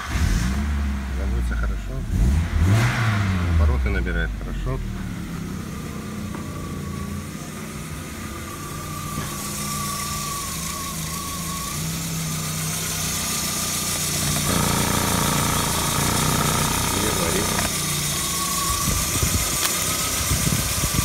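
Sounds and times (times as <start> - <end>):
car engine idling: 3.6 - 21.0.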